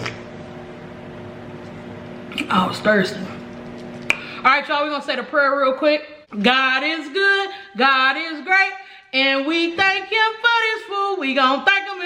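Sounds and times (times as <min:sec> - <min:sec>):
appliance or fan humming: 0:00.0 - 0:12.0.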